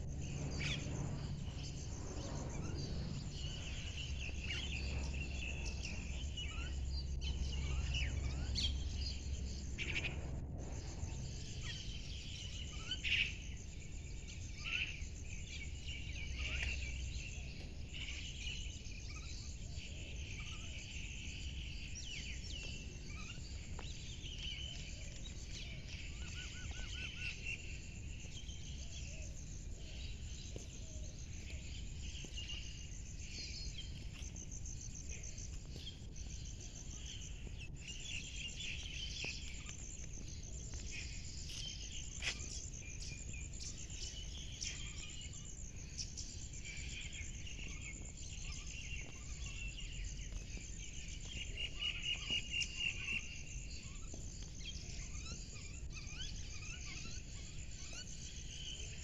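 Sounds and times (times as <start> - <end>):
low background rumble: 0.0 - 59.0
small birds chirping: 0.0 - 59.0.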